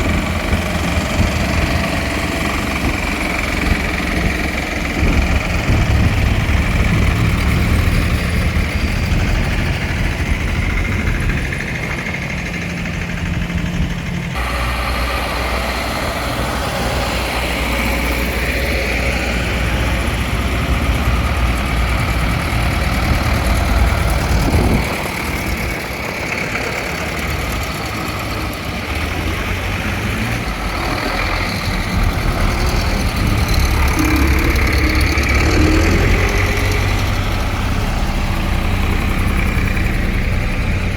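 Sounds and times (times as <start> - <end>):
tractor engines rumbling: 0.0 - 40.9.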